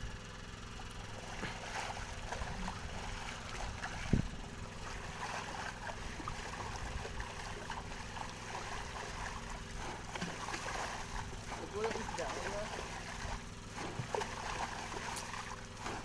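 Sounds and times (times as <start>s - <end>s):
low steady hum: 0.0s - 16.0s
water splashing and sloshing: 0.8s - 16.0s.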